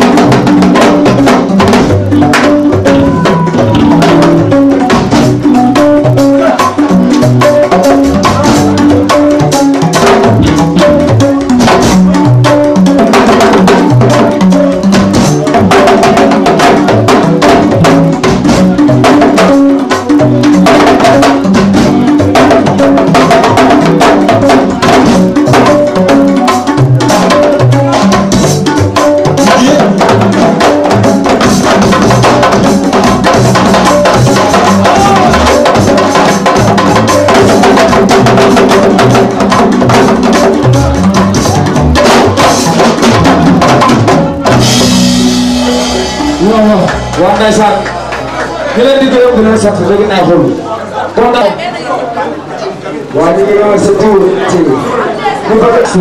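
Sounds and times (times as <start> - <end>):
drums rolling fast: 0.0 - 51.4
band with stepping bass line: 0.0 - 51.7.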